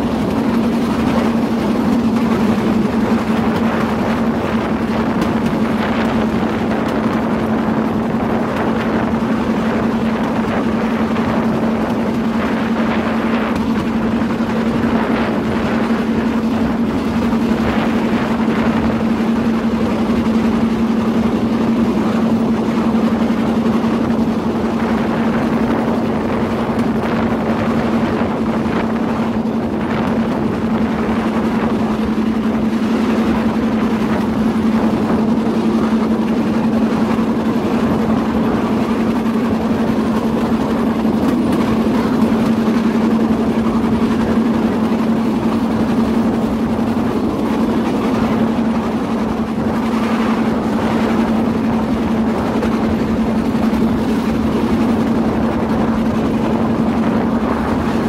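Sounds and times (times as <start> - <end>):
small engine droning: 0.0 - 58.0
wheels rumbling on track: 0.0 - 58.0.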